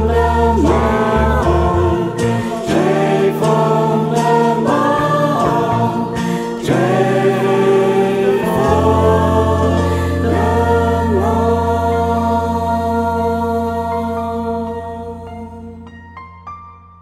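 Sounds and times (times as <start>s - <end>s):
voices singing held notes: 0.0s - 15.8s.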